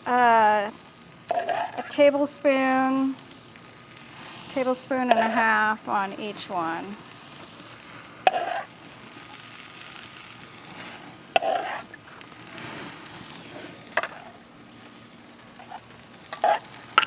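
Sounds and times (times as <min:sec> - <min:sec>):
sauce sizzling on a grill: 0:00.0 - 0:17.0.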